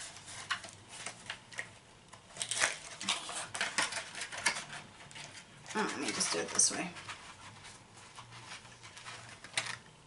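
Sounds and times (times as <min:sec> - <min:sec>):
package being handled and opened: 0:00.0 - 0:10.0.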